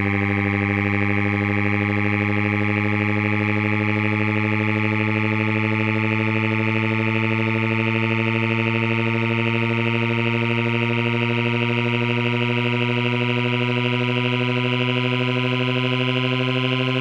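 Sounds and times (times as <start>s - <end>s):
buzzy low test tone: 0.0s - 17.0s.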